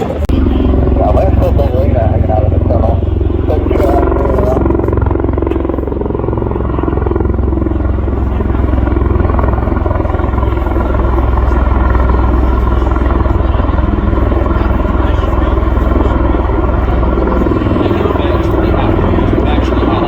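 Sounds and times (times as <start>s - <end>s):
propeller aircraft droning: 0.0s - 20.0s.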